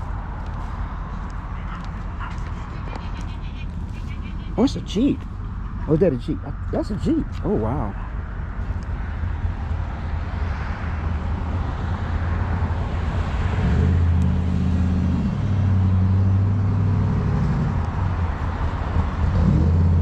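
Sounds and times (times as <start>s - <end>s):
deep engine rumble: 0.0s - 20.0s
vehicles driving past: 0.0s - 20.0s.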